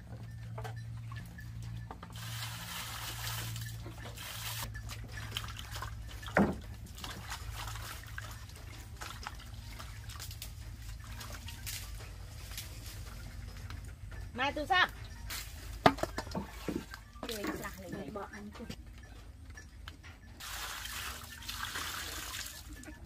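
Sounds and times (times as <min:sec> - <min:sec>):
water sloshing in metal basin: 0:00.0 - 0:13.9, 0:14.9 - 0:18.8, 0:20.4 - 0:23.0
low hum: 0:00.0 - 0:23.0.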